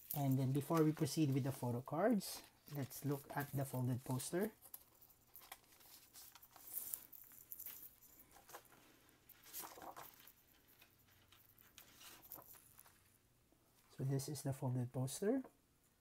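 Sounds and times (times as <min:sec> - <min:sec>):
plastic sleeve and paper rustling: 0:00.0 - 0:13.1.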